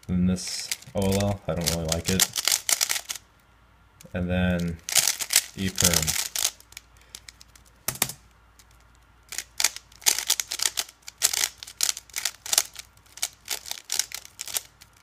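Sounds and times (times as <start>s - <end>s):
plastic puzzle cube clicking: 0.7s - 3.2s, 4.6s - 15.0s.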